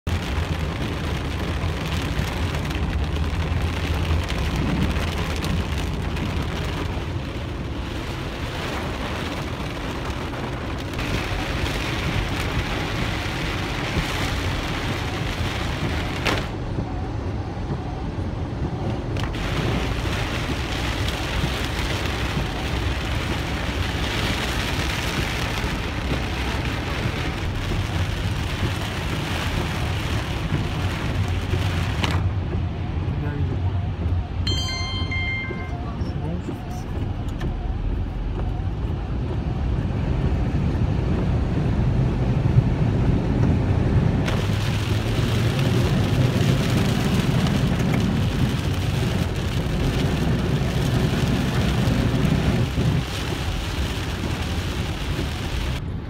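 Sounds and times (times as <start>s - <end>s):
low rumble of car and traffic: 0.0s - 56.0s
heavy rain on car windshield: 0.1s - 56.0s.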